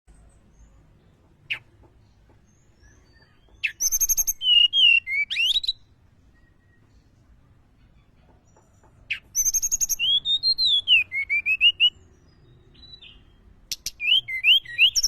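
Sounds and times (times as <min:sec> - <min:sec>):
songbird singing: 0:00.1 - 0:15.0.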